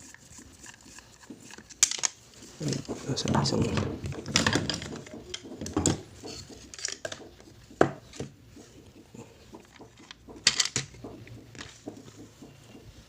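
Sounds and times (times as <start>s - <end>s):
plastic parts clicking and rubbing: 0.0s - 8.8s, 9.5s - 13.0s.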